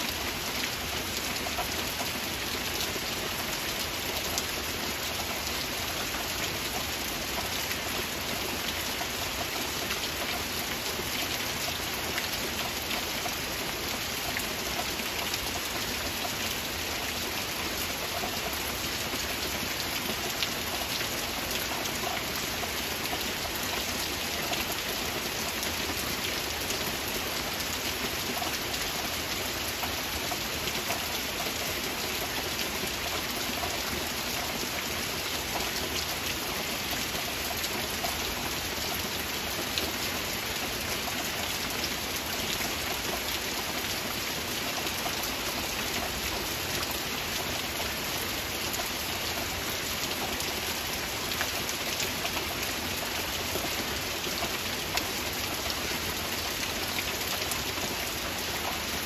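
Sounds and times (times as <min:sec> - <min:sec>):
heavy rain on foliage: 0:00.0 - 0:59.0
raindrops ticking close by: 0:00.0 - 0:59.0.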